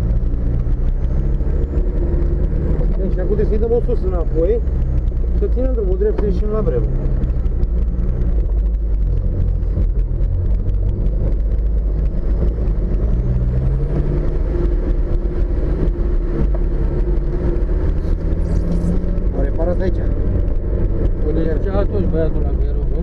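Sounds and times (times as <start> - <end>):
vehicle engine hum: 0.0 - 23.0.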